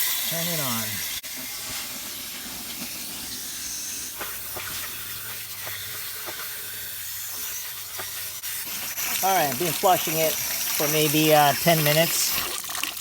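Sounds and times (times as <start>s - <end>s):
water spray hissing in a tank: 0.0s - 13.0s.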